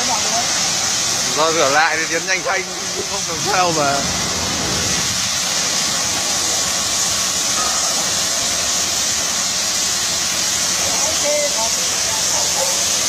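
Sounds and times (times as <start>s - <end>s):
high-pressure water spray hissing: 0.0s - 13.0s.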